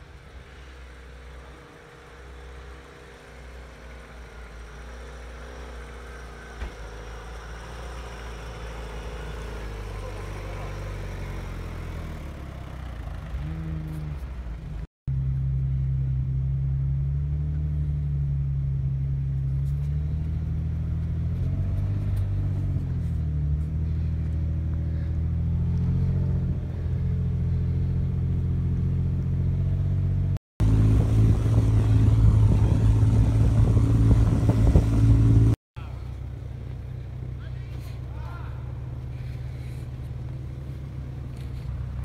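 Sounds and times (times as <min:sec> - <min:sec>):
off-road vehicle engine droning: 0:00.0 - 0:42.0.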